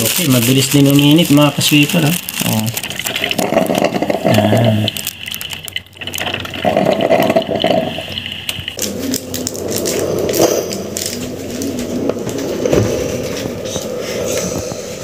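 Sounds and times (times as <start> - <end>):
liquid running into carafe: 0.0 - 14.2
hot water gurgling in coffee maker: 0.0 - 15.0.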